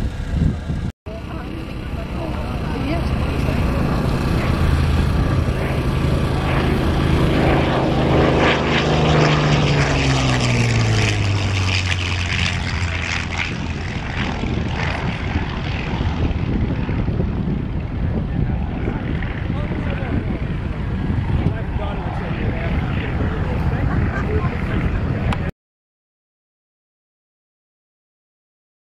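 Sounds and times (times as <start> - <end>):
fighter plane engine flyby: 0.0 - 25.5.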